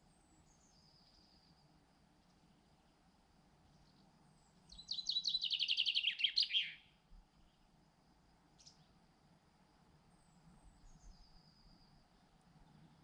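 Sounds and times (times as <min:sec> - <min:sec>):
songbird singing: 0:00.0 - 0:07.8, 0:08.4 - 0:09.0, 0:10.0 - 0:13.0.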